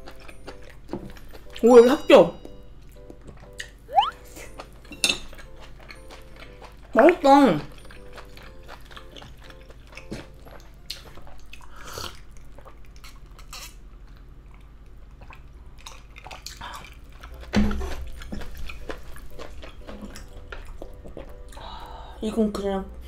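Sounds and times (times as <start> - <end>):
chewing with wet smacks: 0.0 - 22.8.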